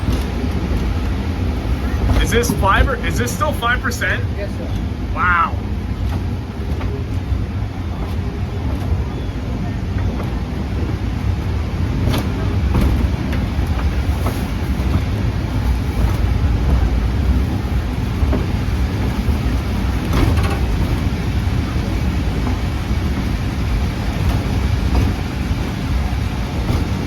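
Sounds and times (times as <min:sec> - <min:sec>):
steam train rumbling uphill: 0:00.0 - 0:27.0.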